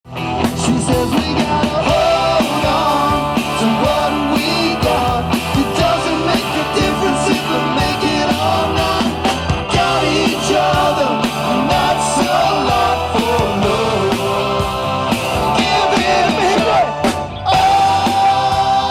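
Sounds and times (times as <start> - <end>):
rock band music: 0.0 - 18.9.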